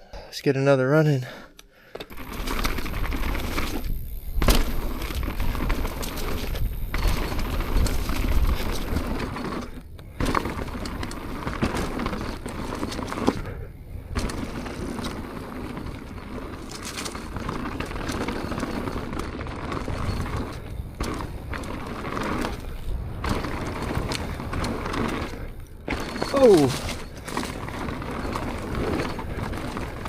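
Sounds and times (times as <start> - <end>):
bike clicks and knocks: 1.9 - 30.0
bike tyres rushing on dirt: 2.1 - 30.0.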